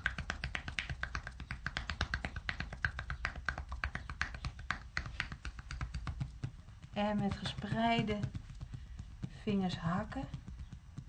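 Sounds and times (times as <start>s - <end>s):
fists beating a bare back: 0.0s - 11.0s.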